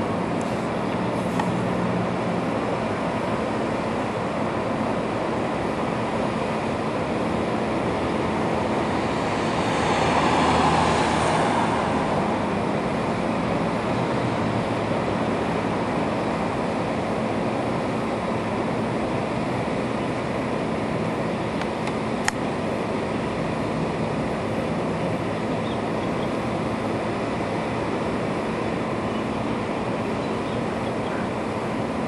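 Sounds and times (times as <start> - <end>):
distant vehicle hum: 0.0 - 32.0.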